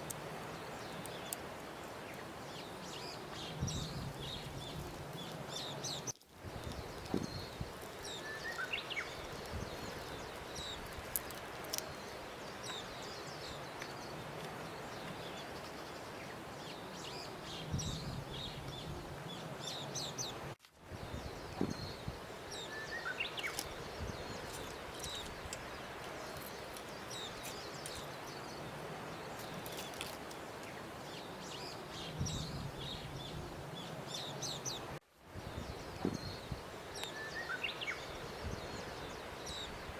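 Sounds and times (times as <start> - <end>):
birds chirping: 0.0 - 20.4, 21.0 - 39.9
steady background hiss: 0.0 - 39.9.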